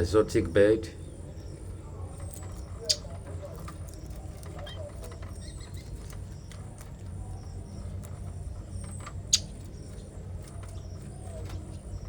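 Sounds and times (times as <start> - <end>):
cage birds chirping: 0.0 - 12.0.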